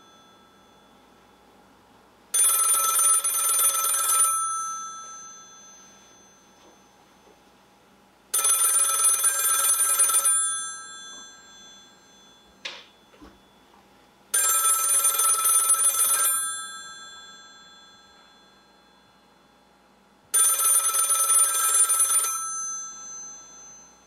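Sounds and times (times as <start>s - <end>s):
telephone bell ringing: 0.0s - 1.5s, 2.3s - 7.4s, 8.3s - 13.7s, 14.3s - 24.0s.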